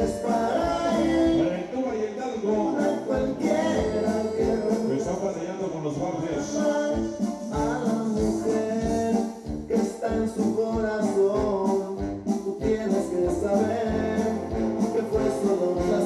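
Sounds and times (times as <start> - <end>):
dance music with bass beat and singing: 0.0 - 5.4, 6.4 - 16.0.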